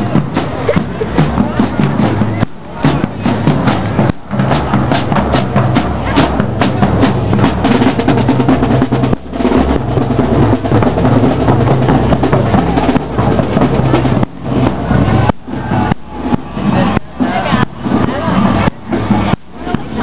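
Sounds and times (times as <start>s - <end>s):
snare and bass drums playing: 0.0s - 20.0s.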